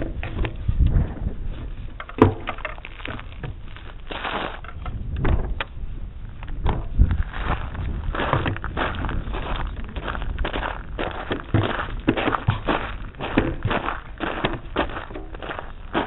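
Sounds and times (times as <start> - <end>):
knocks and rattles: 0.0 - 5.7, 6.5 - 16.0
wind buffeting microphone: 0.0 - 16.0.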